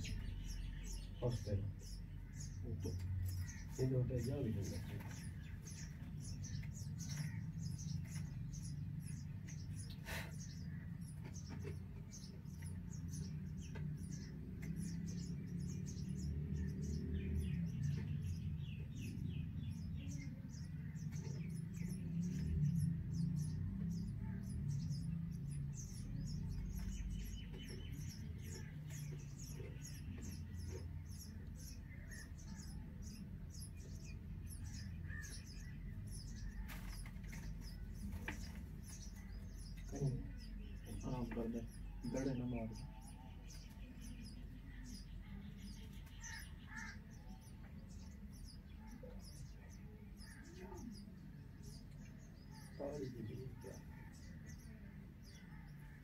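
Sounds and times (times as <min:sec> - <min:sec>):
nestlings begging peeps: 0:00.0 - 0:56.0.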